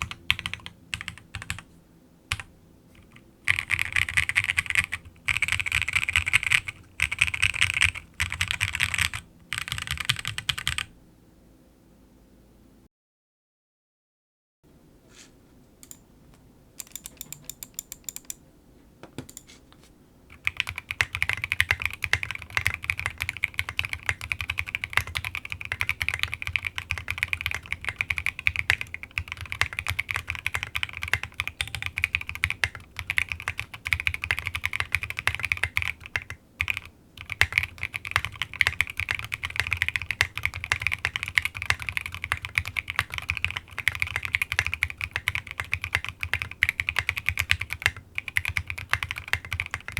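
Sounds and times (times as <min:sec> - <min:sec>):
mechanical keyboard typing: 0:00.0 - 0:01.6, 0:02.3 - 0:10.9, 0:16.8 - 0:18.4, 0:20.3 - 0:49.9.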